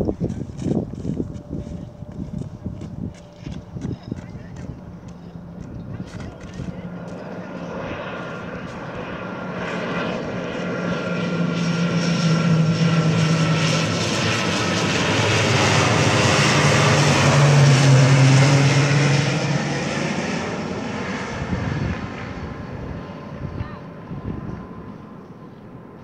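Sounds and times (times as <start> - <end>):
turboprop airliner passing overhead: 0.0 - 26.0.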